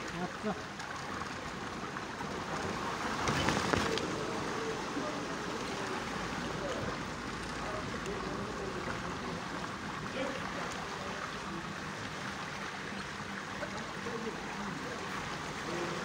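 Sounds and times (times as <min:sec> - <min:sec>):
floodwater sloshing: 0:00.0 - 0:16.0.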